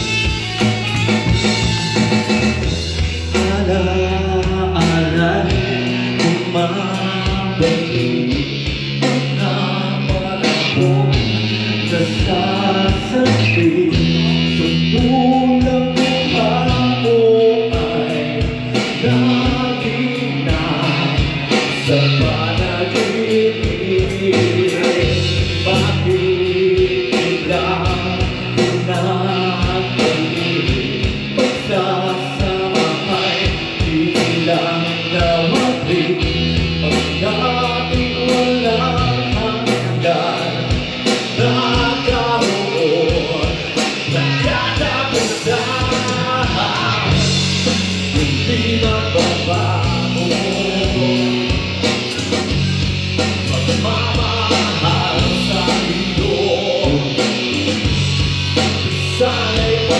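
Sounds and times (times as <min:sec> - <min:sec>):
live band playing: 0:00.0 - 0:59.9
man singing: 0:00.0 - 0:59.9.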